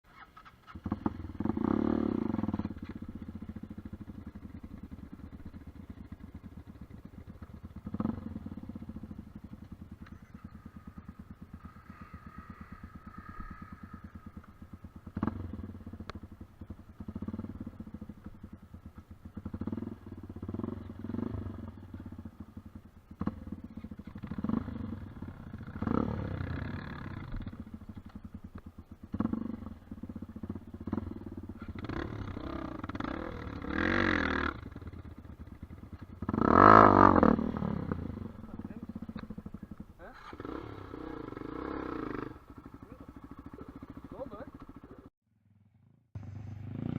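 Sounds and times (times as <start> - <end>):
dirt bike engines revving: 0.2 - 46.9.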